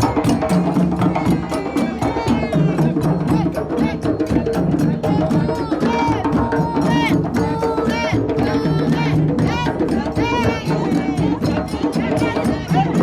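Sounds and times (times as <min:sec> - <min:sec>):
group of voices singing: 0:00.0 - 0:13.0
parade drums playing fast rhythm: 0:00.0 - 0:13.0.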